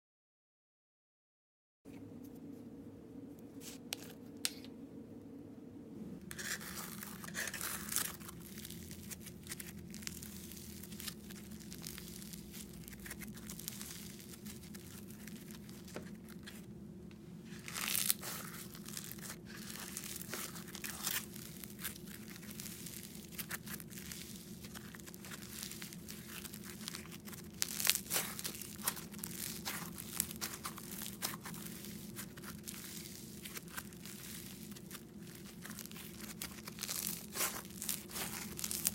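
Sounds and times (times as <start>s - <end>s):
steady low hum: 1.9s - 38.9s
slime crunching and crackling: 6.3s - 16.7s, 17.5s - 38.9s.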